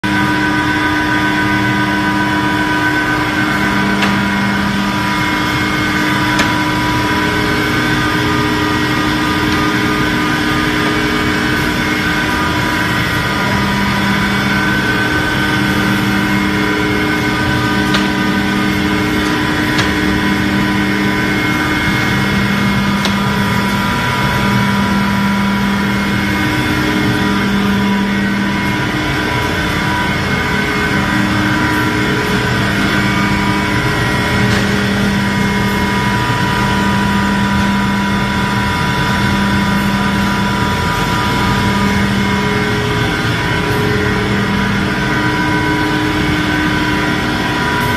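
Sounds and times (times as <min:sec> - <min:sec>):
low hum: 0:00.0 - 0:47.9
sanding machine running: 0:00.0 - 0:47.9.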